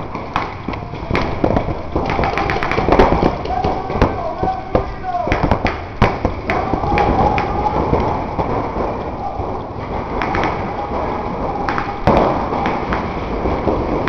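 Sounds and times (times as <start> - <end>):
paintball markers firing: 0.0 - 9.0, 10.1 - 10.8, 11.6 - 14.0.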